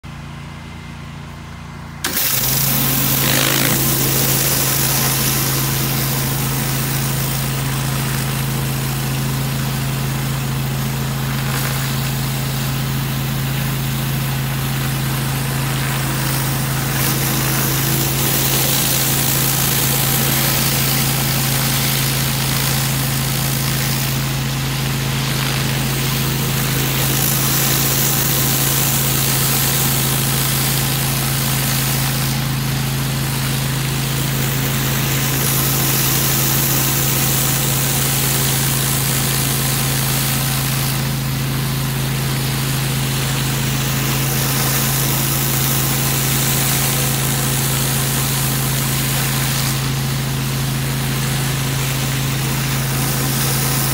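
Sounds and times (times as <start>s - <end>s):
high-pressure water spray hiss: 2.0s - 53.9s.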